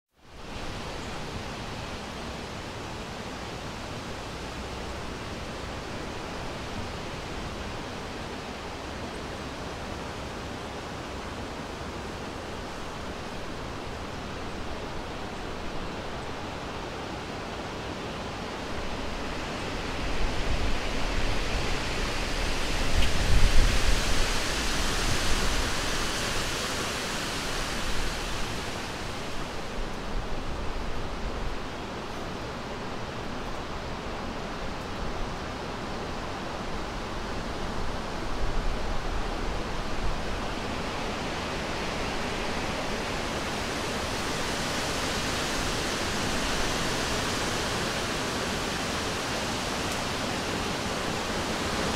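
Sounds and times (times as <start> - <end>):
wind rustling through trees: 0.1 - 51.9.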